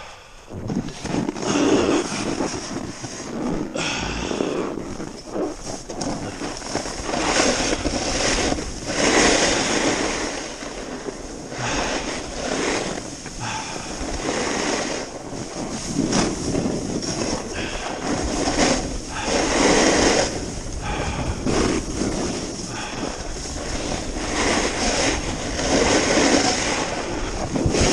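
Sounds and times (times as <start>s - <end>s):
wind rushing over microphone: 0.0s - 27.9s
ski edges scraping over snow: 0.5s - 27.9s.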